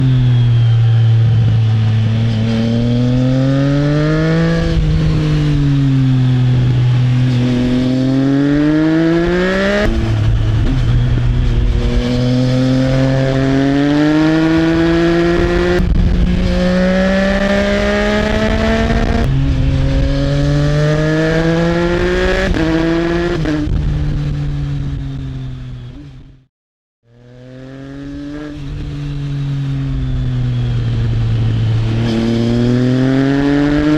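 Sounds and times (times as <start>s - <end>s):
motorcycle engine accelerating: 0.0s - 33.9s.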